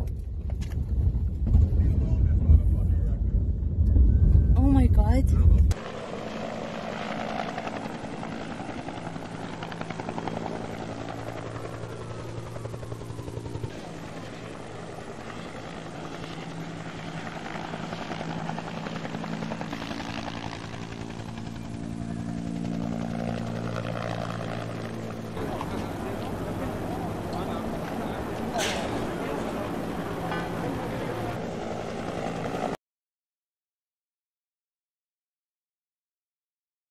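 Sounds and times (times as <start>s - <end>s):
helicopter rotor and turbine engine: 0.0s - 32.8s.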